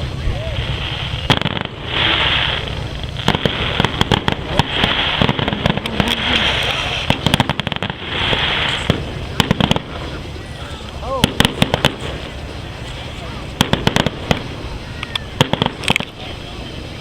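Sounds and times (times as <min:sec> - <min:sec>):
fireworks bangs and crackling: 0:00.0 - 0:17.0
hiss: 0:00.4 - 0:17.0.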